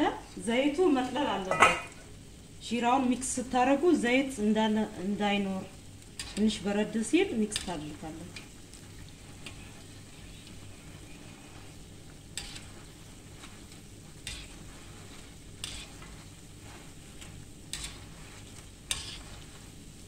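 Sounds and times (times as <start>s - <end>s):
dough deep-frying in oil: 0.0s - 20.0s.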